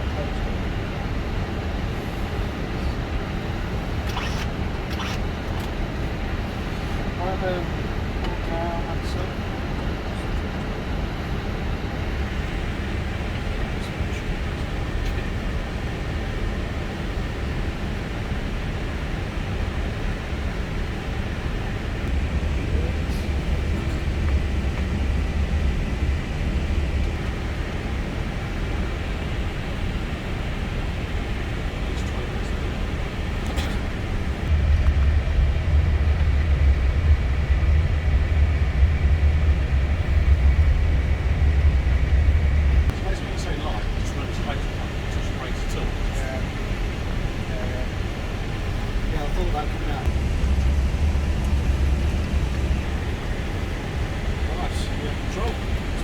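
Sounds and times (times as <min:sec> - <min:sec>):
aircraft cockpit low rumble: 0:00.0 - 0:56.0.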